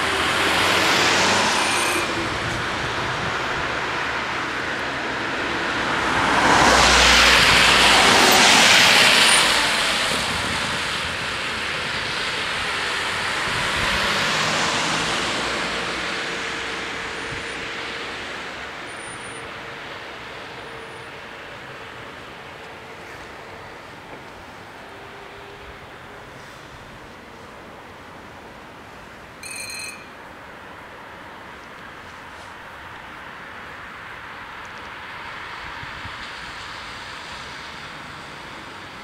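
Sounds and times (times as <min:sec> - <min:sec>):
cars passing on wet road: 0:00.0 - 0:39.0.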